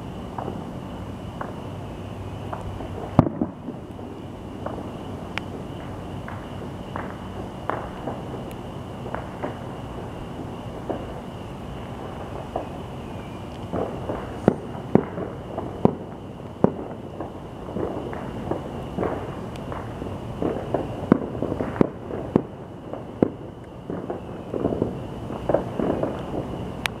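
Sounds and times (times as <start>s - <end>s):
distant fireworks bangs: 0.0s - 1.7s, 2.4s - 27.0s
fireworks crackle: 0.0s - 27.0s.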